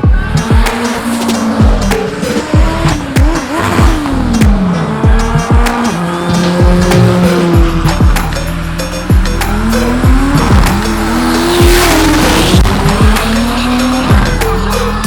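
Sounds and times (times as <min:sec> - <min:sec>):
drag racing car engines: 0:00.0 - 0:15.0
music with sliding bass notes: 0:00.0 - 0:15.0
tyres squealing: 0:00.0 - 0:15.0.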